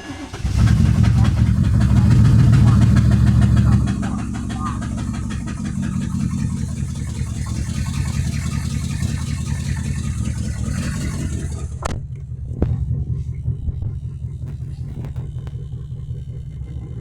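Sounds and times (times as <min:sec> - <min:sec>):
car engine rumbling: 0:00.0 - 0:17.0
fast even ticking: 0:00.4 - 0:17.0.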